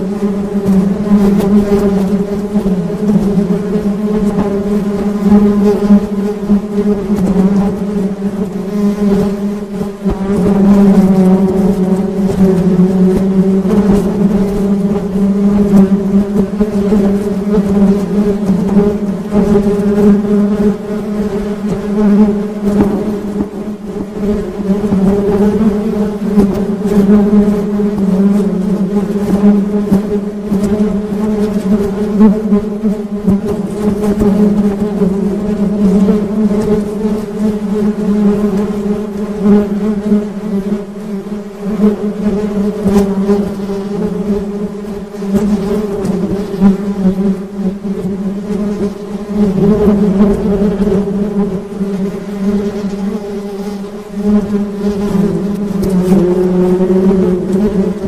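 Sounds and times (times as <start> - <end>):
bees buzzing: 0.0 - 58.0.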